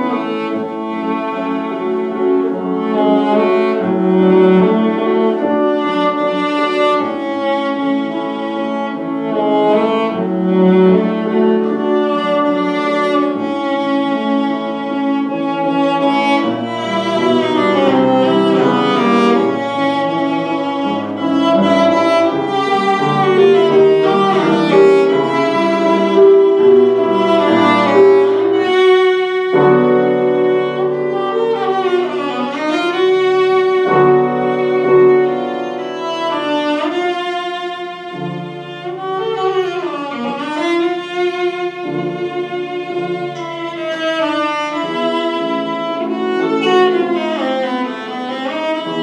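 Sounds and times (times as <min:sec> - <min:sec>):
bowed string melody with vibrato: 0:00.0 - 0:49.0
piano: 0:00.0 - 0:49.0.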